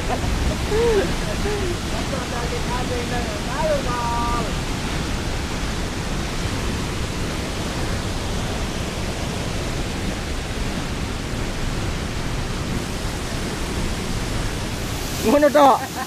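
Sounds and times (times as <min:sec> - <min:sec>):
waterfall rushing into pool: 0:00.0 - 0:16.0.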